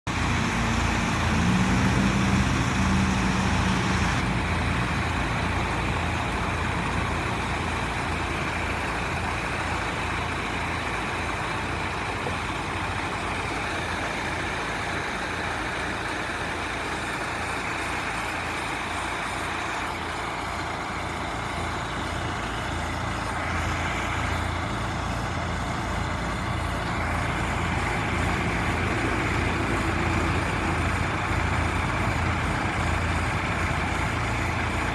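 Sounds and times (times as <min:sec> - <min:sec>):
low engine throb: 0:00.0 - 0:34.9
steady noisy rush: 0:00.1 - 0:22.6, 0:23.2 - 0:34.9.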